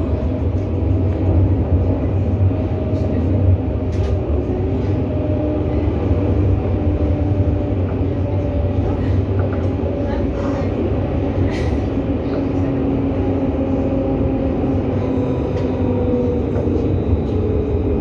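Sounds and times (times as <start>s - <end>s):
tram wheels rumbling on rail: 0.0s - 18.0s.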